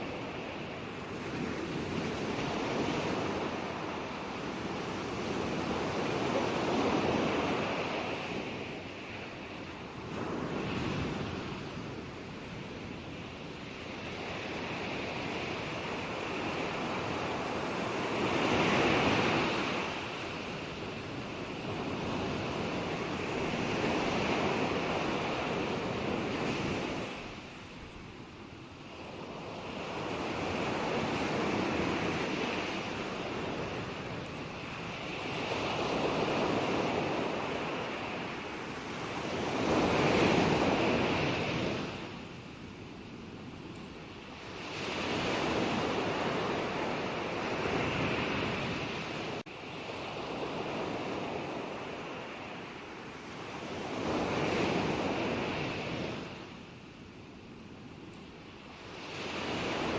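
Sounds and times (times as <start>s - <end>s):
ocean waves breaking on shore: 0.0s - 57.3s, 58.3s - 59.9s.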